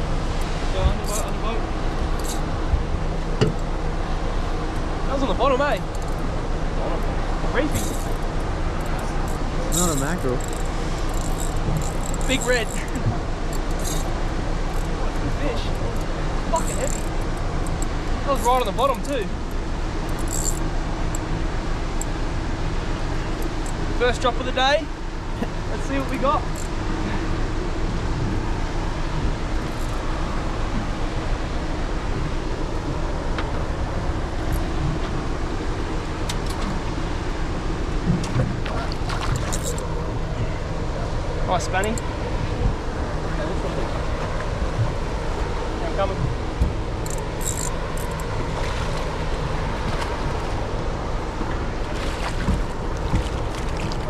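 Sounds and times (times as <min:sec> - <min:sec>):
boat motor idling: 0:00.0 - 0:54.0.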